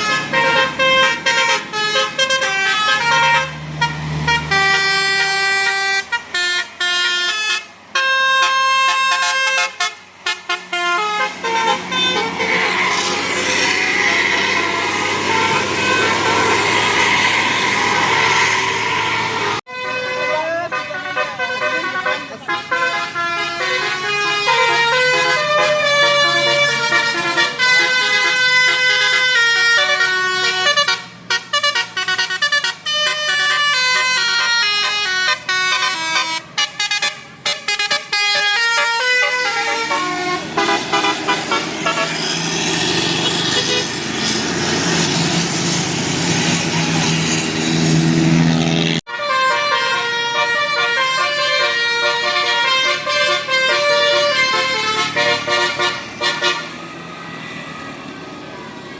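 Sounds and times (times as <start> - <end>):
musical air horn tune: 0.0 - 17.4, 19.4 - 42.3, 48.3 - 56.8.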